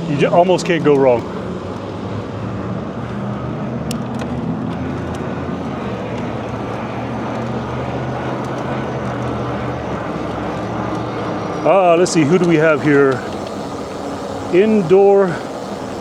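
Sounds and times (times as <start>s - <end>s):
low engine hum: 0.0s - 16.0s
street traffic: 0.0s - 16.0s.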